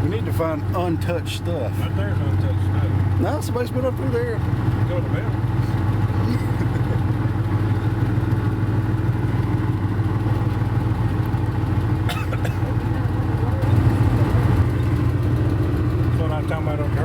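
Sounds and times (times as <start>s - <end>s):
engine droning inside vehicle: 0.0s - 17.0s.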